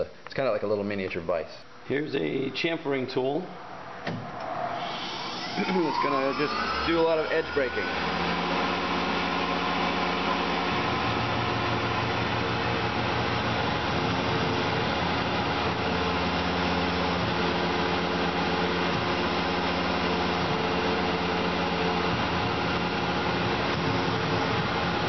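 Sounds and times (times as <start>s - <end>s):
milling machine hum and whine: 2.9s - 25.0s.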